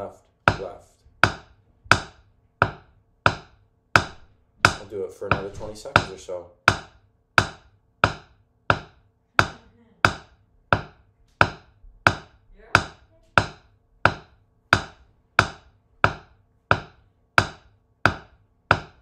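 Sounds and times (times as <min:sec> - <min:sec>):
drumsticks tapping practice pad: 0:00.5 - 0:19.0.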